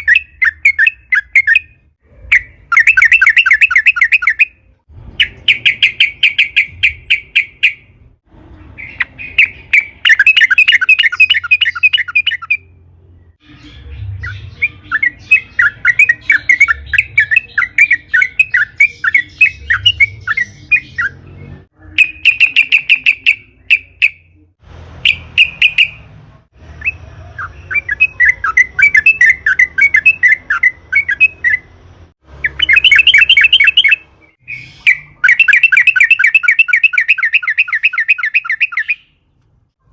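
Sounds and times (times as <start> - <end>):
bird chattering song: 0.0 - 4.6, 5.2 - 8.0, 8.6 - 26.0, 26.8 - 31.7, 32.4 - 39.2.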